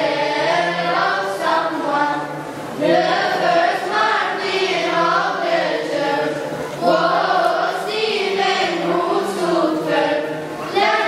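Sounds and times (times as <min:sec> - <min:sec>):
children's choir singing a hymn: 0:00.0 - 0:11.0.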